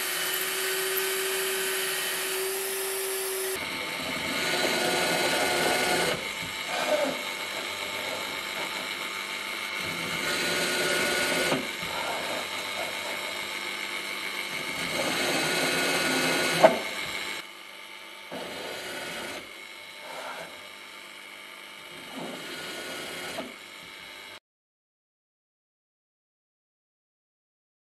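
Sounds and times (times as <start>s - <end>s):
power tool whining on metal: 0.0s - 24.4s.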